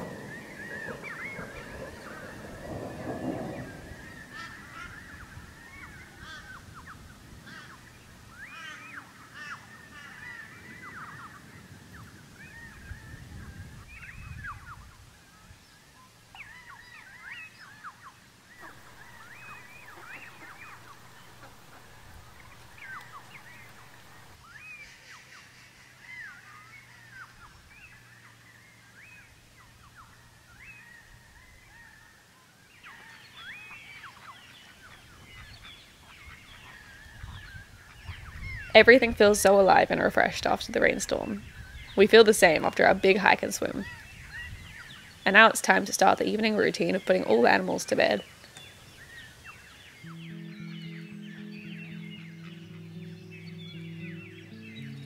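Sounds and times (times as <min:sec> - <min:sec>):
birds calling: 0:00.0 - 0:55.0.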